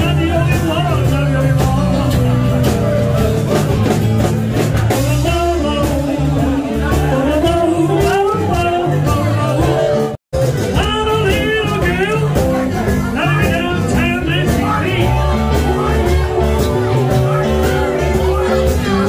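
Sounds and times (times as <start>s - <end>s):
acoustic guitars: 0.0s - 19.0s
man singing into a microphone: 0.0s - 19.0s.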